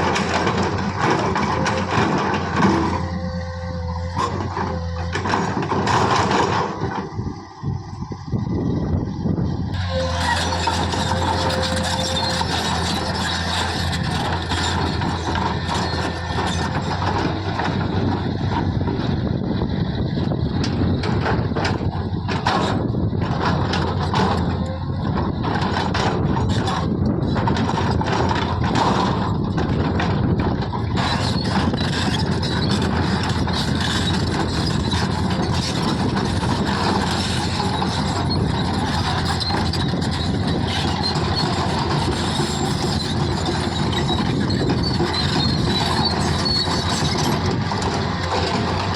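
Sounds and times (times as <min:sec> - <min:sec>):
knocks and clatter: 0:00.0 - 0:03.4, 0:04.1 - 0:07.1, 0:09.9 - 0:19.2, 0:20.2 - 0:48.9
diesel engine running under load: 0:00.0 - 0:48.9.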